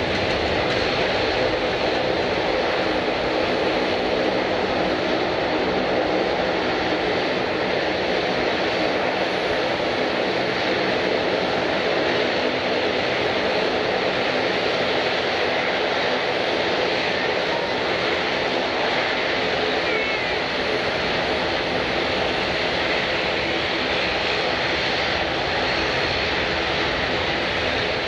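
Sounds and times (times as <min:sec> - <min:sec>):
airliner engines running: 0:00.0 - 0:28.0.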